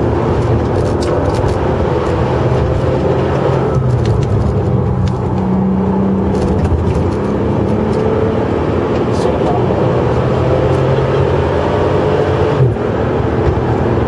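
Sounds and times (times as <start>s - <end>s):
car engine from inside cabin: 0.0s - 14.0s
road noise: 0.0s - 14.0s.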